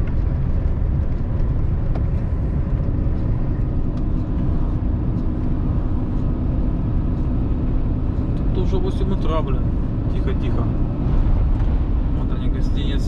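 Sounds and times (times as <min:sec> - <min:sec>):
truck engine drone: 0:00.0 - 0:13.0
wind and road rumble: 0:00.0 - 0:13.0.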